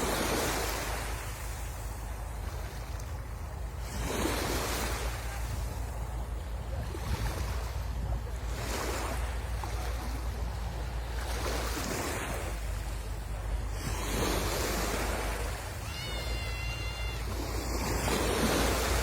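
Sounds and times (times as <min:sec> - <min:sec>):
low surf rumble: 0:00.0 - 0:19.0
sea waves breaking on shore: 0:00.0 - 0:19.0.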